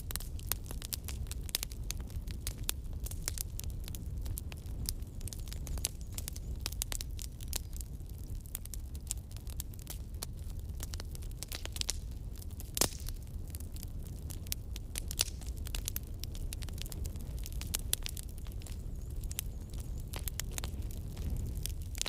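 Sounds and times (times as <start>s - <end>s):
low rumble of flame: 0.0s - 22.0s
wood crackling and popping: 0.0s - 22.0s.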